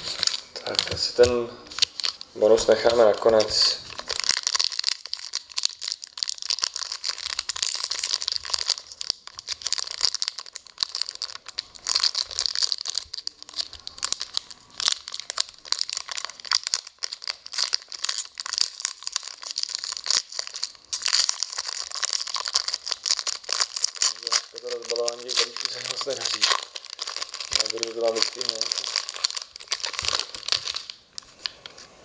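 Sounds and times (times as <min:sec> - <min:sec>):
wrappers being torn open: 0:00.0 - 0:31.6
foil wrappers crinkling: 0:00.0 - 0:31.9.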